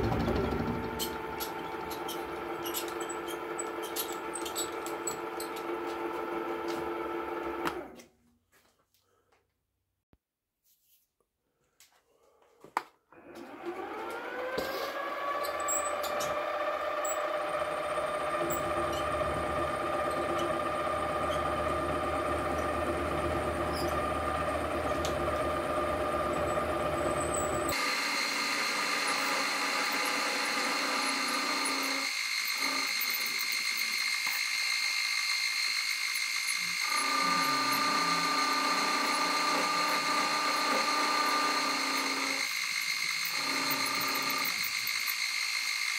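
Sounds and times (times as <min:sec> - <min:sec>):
milling machine motor whine: 0:00.0 - 0:07.9, 0:13.2 - 0:45.9.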